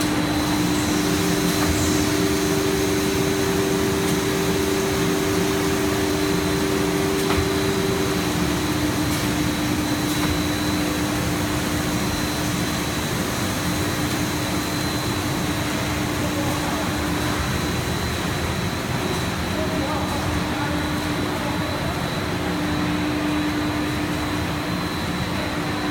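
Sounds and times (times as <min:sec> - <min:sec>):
extrusion line motors and fans: 0:00.0 - 0:25.9.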